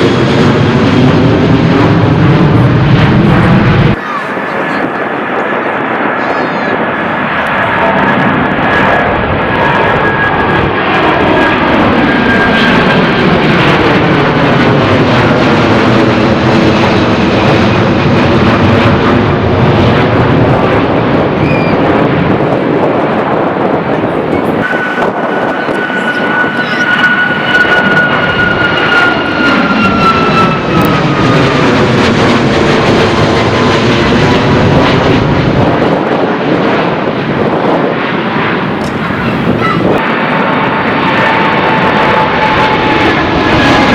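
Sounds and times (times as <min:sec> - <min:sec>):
jet airliners passing overhead: 0:00.0 - 0:43.9.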